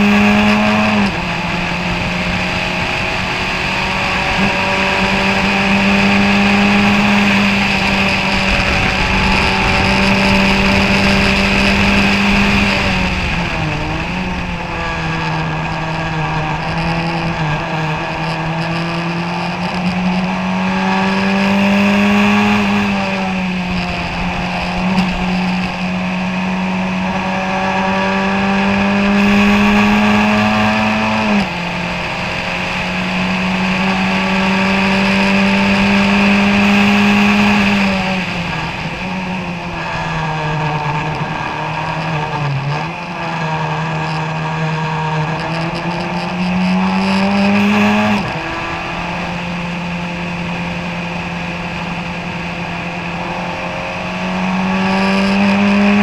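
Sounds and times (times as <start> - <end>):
racing car engine: 0.0 - 56.0.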